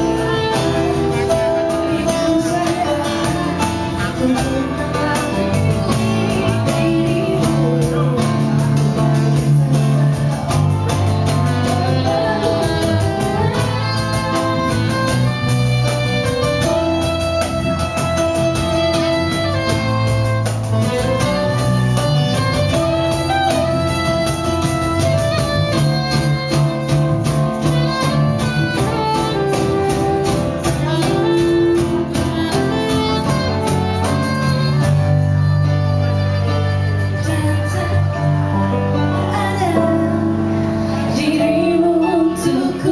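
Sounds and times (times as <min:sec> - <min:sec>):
live band playing pop song: 0:00.0 - 0:42.9.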